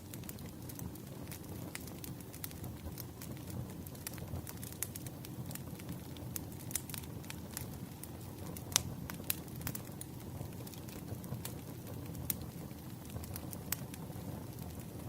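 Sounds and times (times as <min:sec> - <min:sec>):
flames rumbling: 0:00.0 - 0:15.0
firewood popping and snapping: 0:00.1 - 0:15.0.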